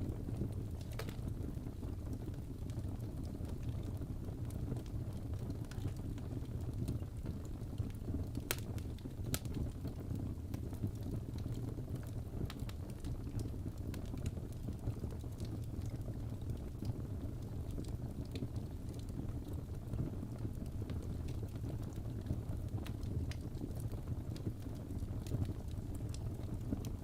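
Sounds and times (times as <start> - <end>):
fire crackling: 0.0 - 27.0.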